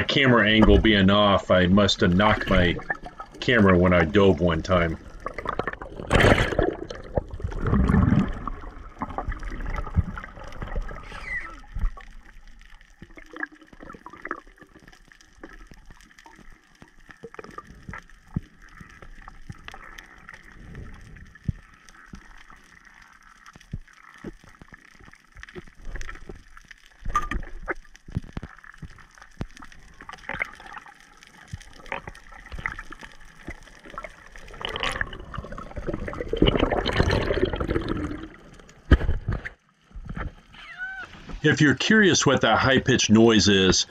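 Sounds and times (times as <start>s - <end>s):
underwater rush of bubbles: 0.0s - 43.9s
water gurgling and sloshing: 0.0s - 43.9s
sharp clicks and crackles: 2.0s - 40.6s.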